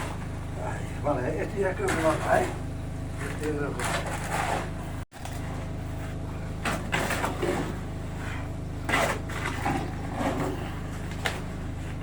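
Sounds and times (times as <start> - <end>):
low motor hum: 0.0 - 12.0
building work knocks and scrapes: 1.5 - 12.0.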